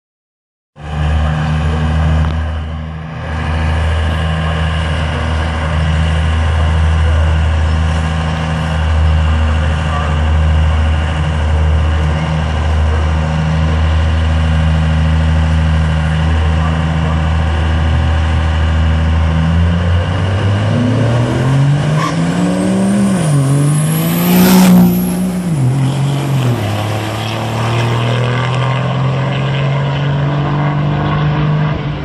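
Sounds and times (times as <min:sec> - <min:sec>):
diesel truck engine running: 0:00.8 - 0:30.0.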